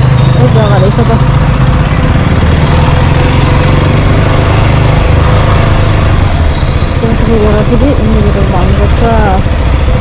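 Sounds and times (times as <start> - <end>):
motorcycle engine running low: 0.0 - 10.0.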